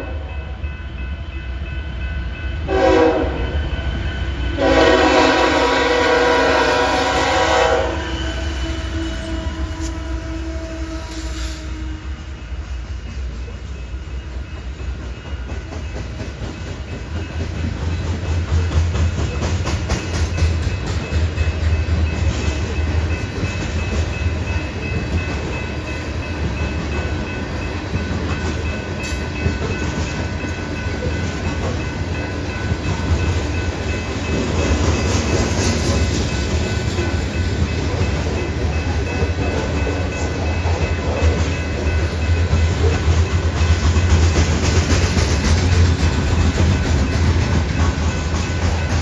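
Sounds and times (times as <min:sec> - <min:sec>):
freight train rumbling past: 0:00.0 - 0:49.0.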